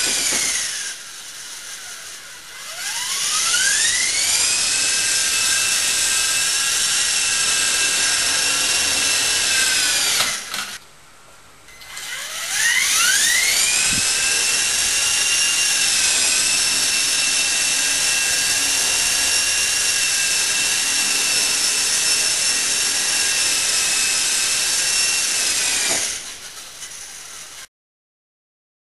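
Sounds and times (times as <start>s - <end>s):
toy helicopter motor whining: 0.0s - 10.8s, 11.7s - 27.7s.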